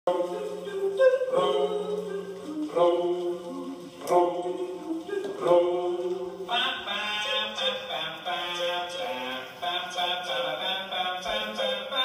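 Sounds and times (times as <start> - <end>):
voices singing together: 0.1 - 12.0.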